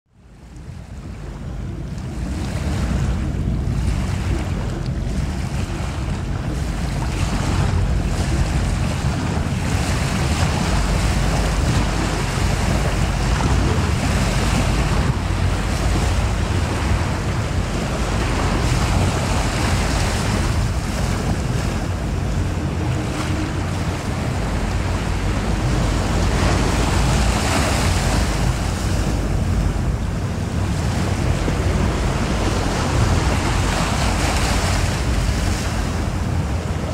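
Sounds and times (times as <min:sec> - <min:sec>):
waves on open water: 0:00.1 - 0:36.9
wind buffeting microphone: 0:00.2 - 0:36.9.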